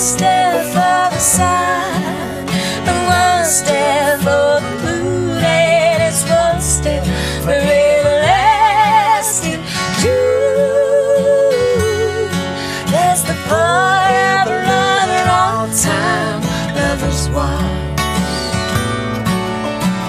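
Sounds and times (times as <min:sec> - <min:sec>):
acoustic guitar accompaniment: 0:00.0 - 0:20.0.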